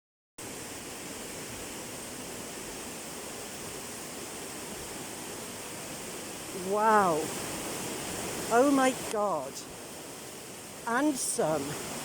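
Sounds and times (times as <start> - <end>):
river water rushing: 0.4 - 12.0.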